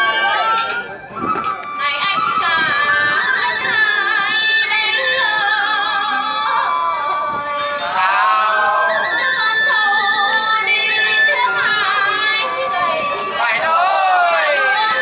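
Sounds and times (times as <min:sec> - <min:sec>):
live folk music: 0:00.0 - 0:15.0.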